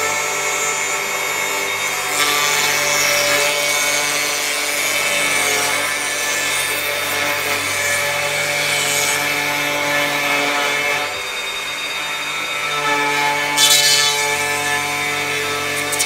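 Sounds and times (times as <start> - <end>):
electric planer shaving wood: 0.0 - 16.0.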